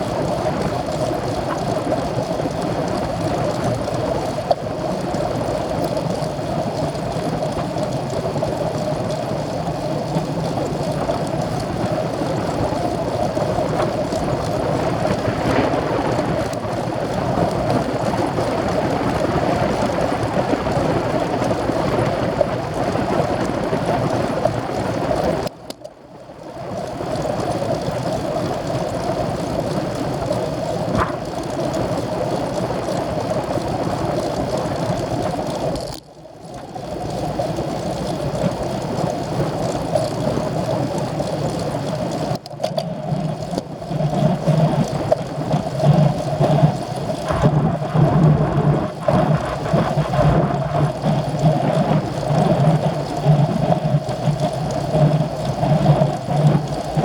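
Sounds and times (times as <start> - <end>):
wind and road noise: 0.0 - 25.5, 26.7 - 57.0.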